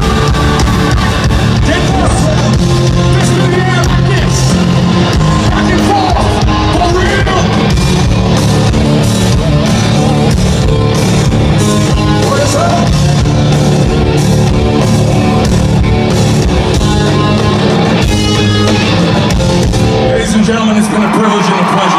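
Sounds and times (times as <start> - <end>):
metal band playing live: 0.0 - 21.9.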